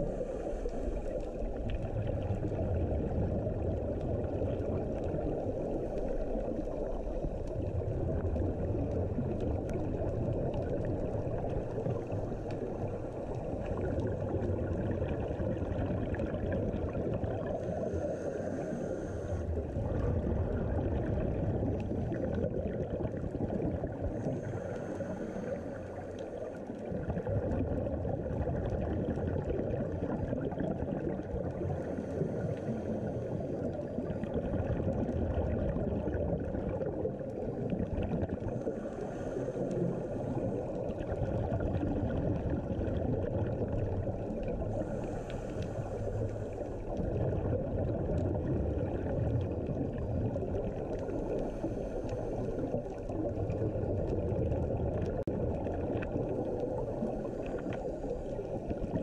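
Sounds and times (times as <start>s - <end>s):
exhaled bubbles rumbling: 0.0s - 59.0s.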